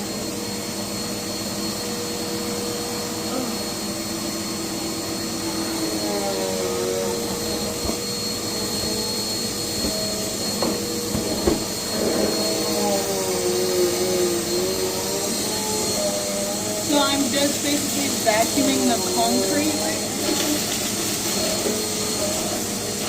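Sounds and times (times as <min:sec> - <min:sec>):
vacuum cleaner whining: 0:00.0 - 0:23.0.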